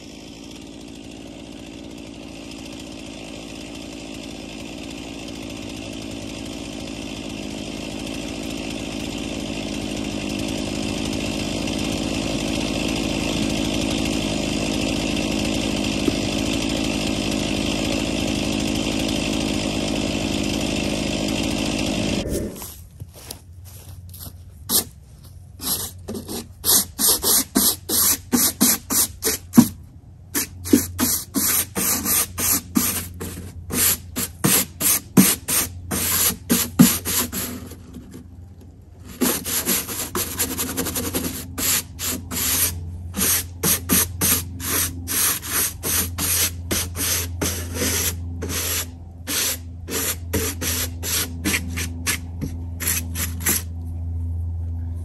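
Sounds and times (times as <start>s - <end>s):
hand tool rasping wood: 0.0s - 23.3s, 24.1s - 53.9s.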